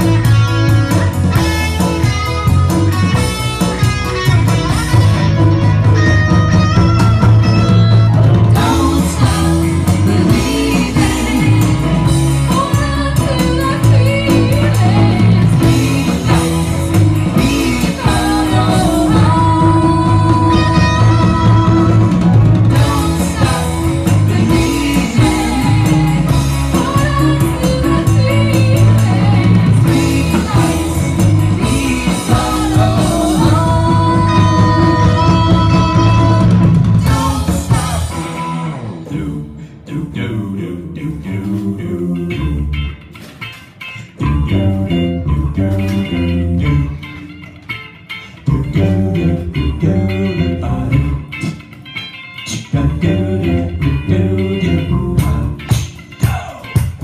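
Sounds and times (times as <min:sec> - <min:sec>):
band playing: 0:00.0 - 0:39.5, 0:42.4 - 0:57.0
electric guitar: 0:00.0 - 0:57.0
person singing: 0:06.5 - 0:43.0, 0:44.1 - 0:47.4, 0:48.3 - 0:51.6, 0:52.4 - 0:57.0.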